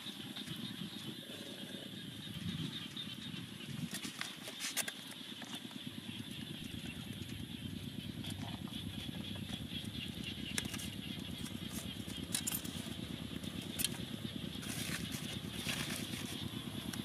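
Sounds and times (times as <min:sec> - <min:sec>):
steady low rumble: 0:00.0 - 0:04.3, 0:05.2 - 0:17.0.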